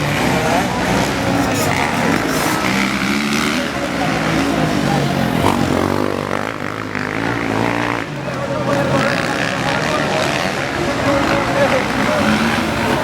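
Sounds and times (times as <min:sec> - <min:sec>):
dirt bike engines revving: 0:00.0 - 0:13.0
voices: 0:00.0 - 0:13.0.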